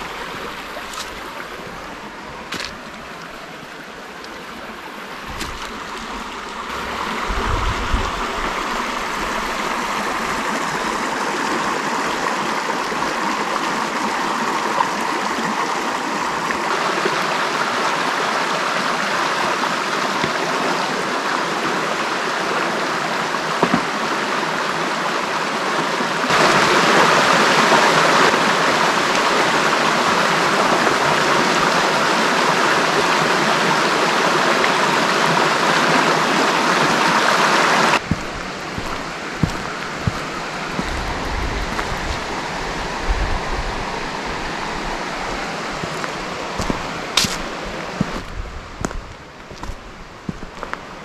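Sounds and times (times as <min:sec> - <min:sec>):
river rushing over rocks: 0:00.0 - 0:51.0.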